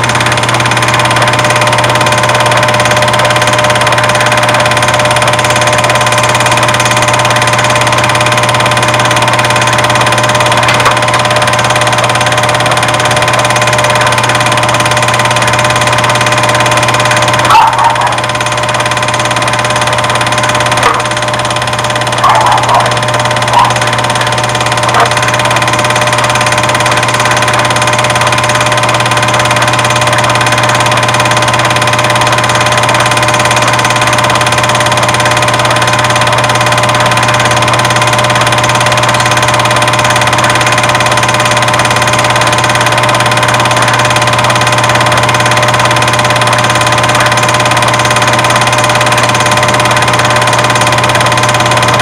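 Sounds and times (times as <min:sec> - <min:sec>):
loud buzzing hum: 0:00.0 - 0:52.0.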